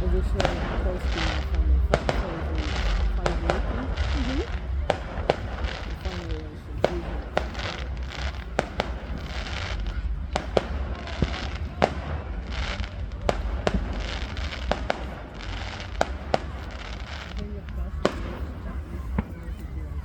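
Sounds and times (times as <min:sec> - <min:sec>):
fireworks bangs: 0:00.0 - 0:20.0
fireworks crackling and hissing: 0:00.0 - 0:20.0.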